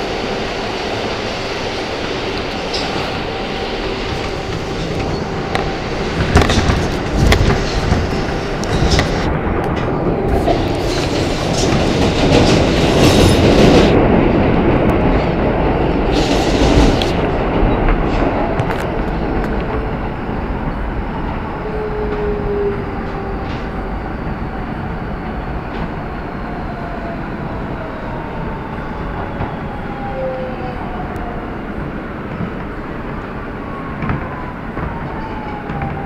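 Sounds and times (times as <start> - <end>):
wheels rumbling on rail: 0.0 - 36.0.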